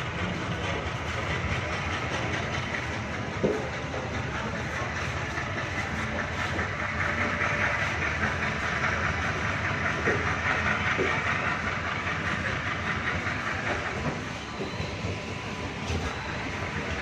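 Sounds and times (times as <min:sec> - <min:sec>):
clatter over rail joints: 0:00.0 - 0:17.0
train wheels on rails: 0:00.0 - 0:17.0.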